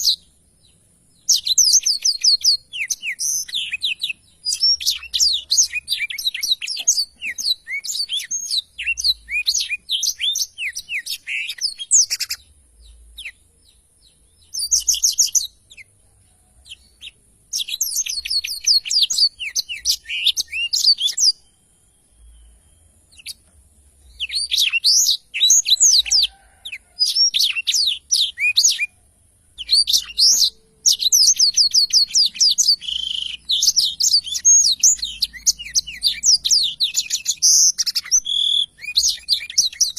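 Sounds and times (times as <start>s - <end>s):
canary singing high twittering: 0.0s - 29.0s, 29.6s - 39.9s.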